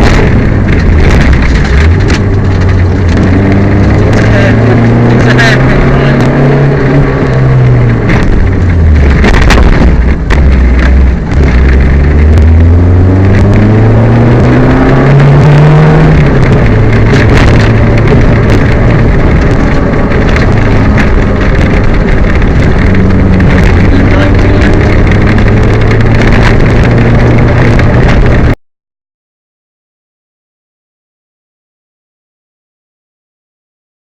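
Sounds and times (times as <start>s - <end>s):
rally car engine under hard driving: 0.0s - 28.6s.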